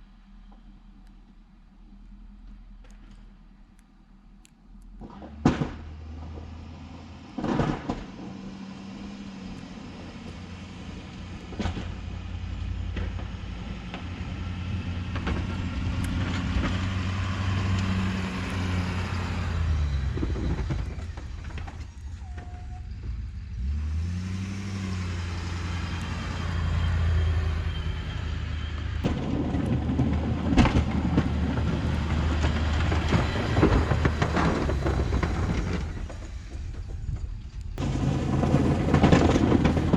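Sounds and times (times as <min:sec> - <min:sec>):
pickup engine under load: 0:04.6 - 0:39.9
snow plow scraping: 0:05.0 - 0:39.9.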